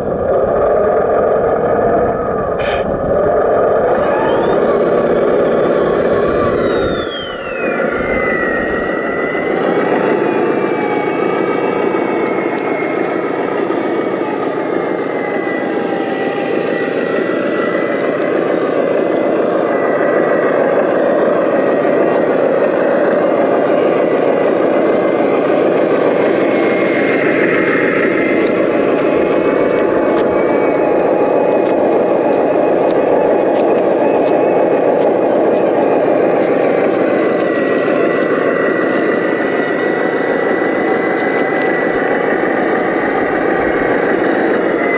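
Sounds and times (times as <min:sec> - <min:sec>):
model vehicle motor whine: 0:00.0 - 0:44.9.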